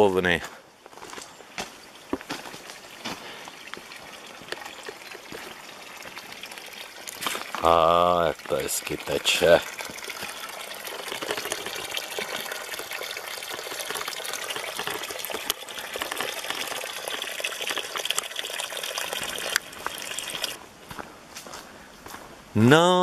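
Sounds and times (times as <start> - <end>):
running water gushing: 1.6 - 20.6.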